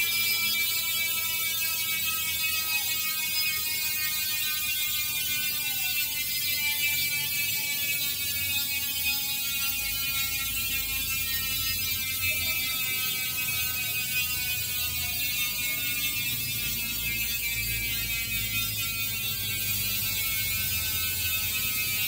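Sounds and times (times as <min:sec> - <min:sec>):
bike hub freewheel buzzing: 0:00.0 - 0:22.0.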